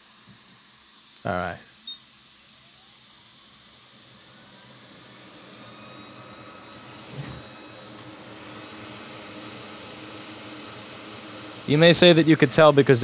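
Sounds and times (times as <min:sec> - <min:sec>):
hot air station hissing: 0:00.0 - 0:13.0.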